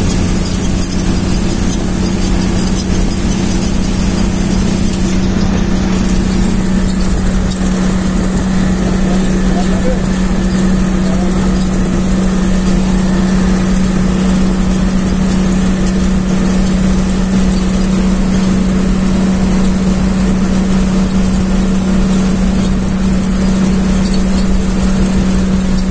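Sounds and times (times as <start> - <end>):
bus engine drone: 0.0 - 25.9
road noise: 0.0 - 25.9.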